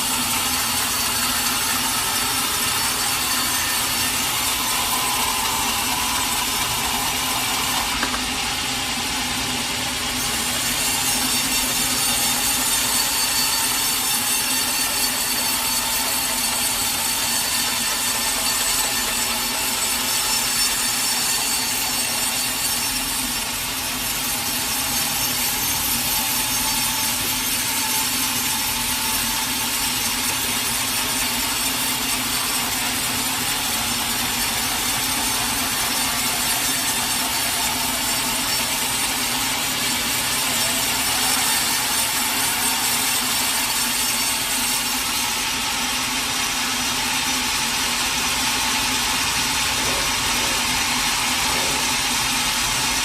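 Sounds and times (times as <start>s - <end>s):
saw cutting through log: 0.0s - 53.0s.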